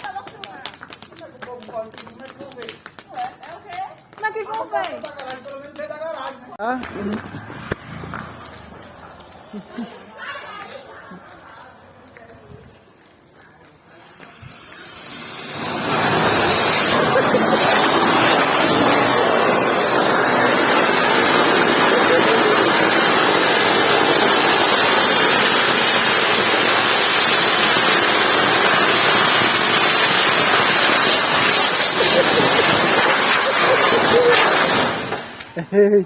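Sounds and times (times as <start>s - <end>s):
firework fountain hissing: 0.0s - 12.1s, 13.8s - 35.7s.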